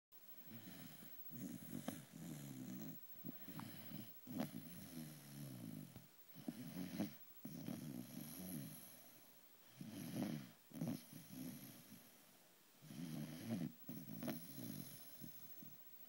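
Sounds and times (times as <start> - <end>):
dog snoring: 0.5 - 12.2, 12.8 - 15.8.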